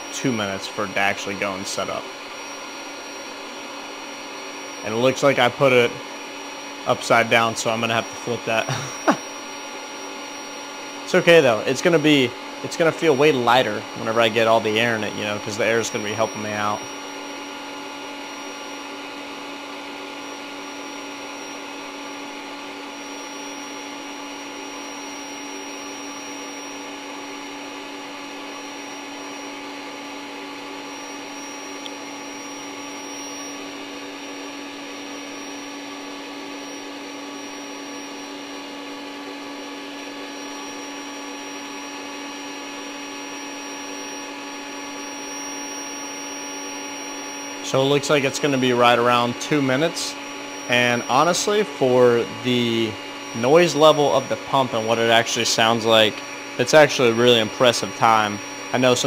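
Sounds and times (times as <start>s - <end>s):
air mattress pump motor hum: 0.0s - 59.0s.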